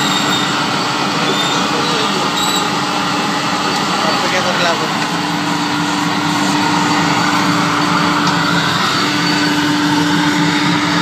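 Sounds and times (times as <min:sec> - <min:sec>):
grinder motor hum: 0:00.0 - 0:11.0.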